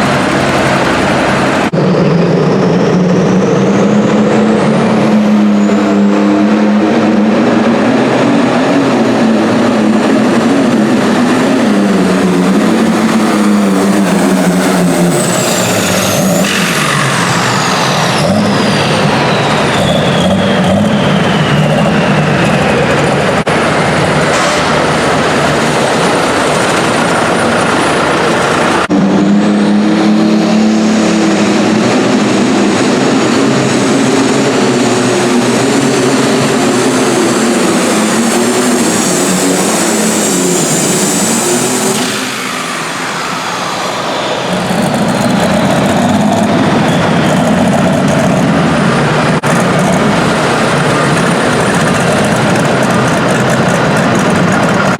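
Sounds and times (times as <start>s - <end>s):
high turbo whine: 0.0s - 54.9s
tractor engine running hard: 0.0s - 54.9s.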